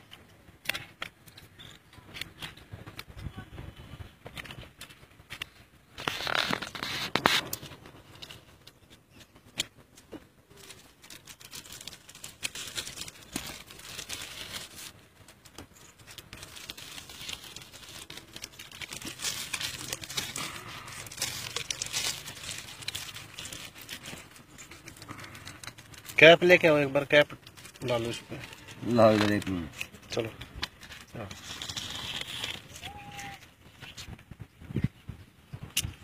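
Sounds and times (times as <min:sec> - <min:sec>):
plastic film crinkling: 0:04.3 - 0:34.7.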